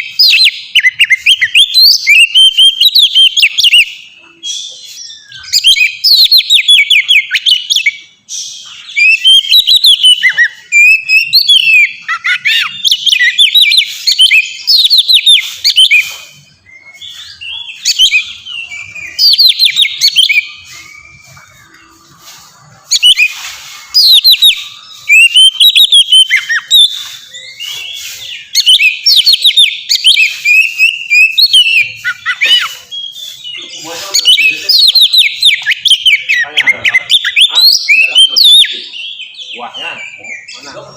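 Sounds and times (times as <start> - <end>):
songbird whistling and trilling: 0.0 - 40.9.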